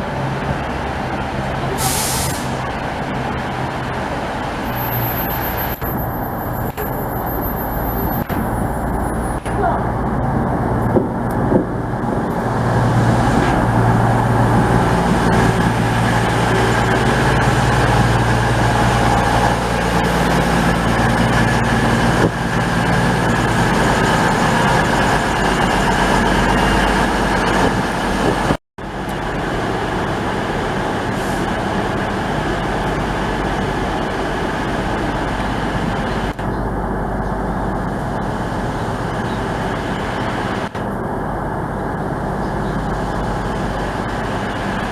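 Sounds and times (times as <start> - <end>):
train engine humming: 0.0 - 44.9.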